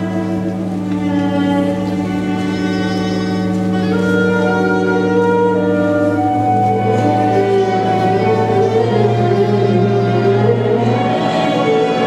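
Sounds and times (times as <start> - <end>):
instrumental music with held notes: 0.0 - 12.0.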